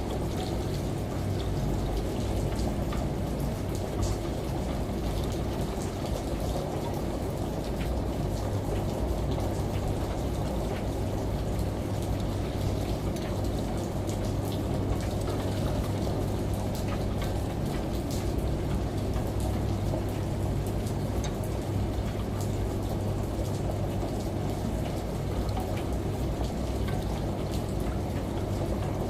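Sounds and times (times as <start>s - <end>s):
steady rain: 0.0s - 29.0s
washing machine hum: 0.0s - 29.0s.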